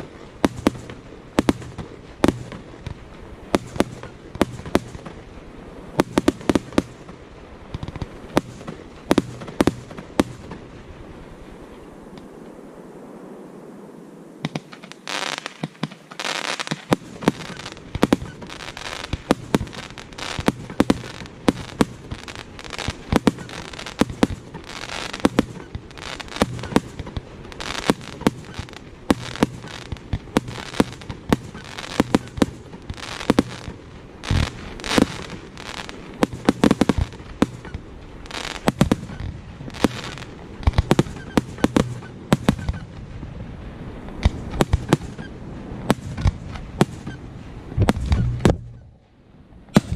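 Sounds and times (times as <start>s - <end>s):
fireworks bursts and bangs: 0.0s - 5.3s, 5.9s - 10.7s, 14.4s - 49.0s, 49.7s - 49.9s
hissing crackling fireworks: 0.0s - 49.9s.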